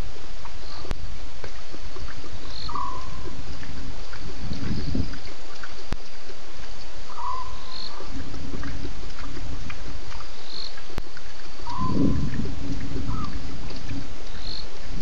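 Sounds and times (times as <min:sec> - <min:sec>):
frogs calling: 0:00.0 - 0:15.0
insects calling: 0:00.0 - 0:15.0
low rumble: 0:00.0 - 0:15.0.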